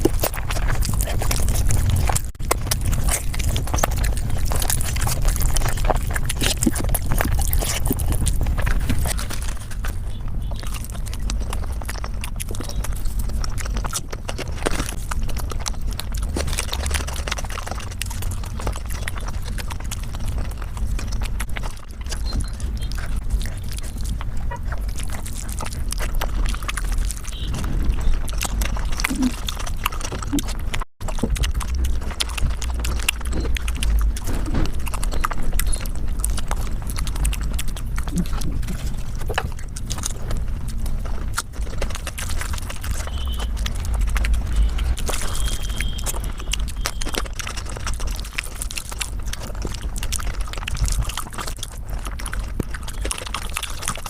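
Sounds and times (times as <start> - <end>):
low rumble: 0.0 - 51.5
sped-up chewing and smacking: 0.0 - 54.0.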